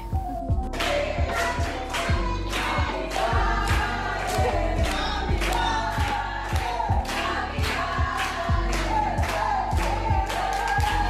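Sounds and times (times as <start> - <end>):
music with singing voices: 0.0 - 11.0
steady beat: 0.0 - 11.0.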